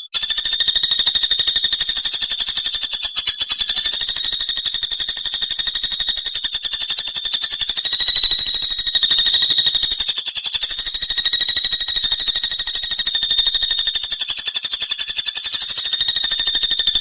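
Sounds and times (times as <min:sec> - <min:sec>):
woodpecker rattling call: 0:00.2 - 0:17.0.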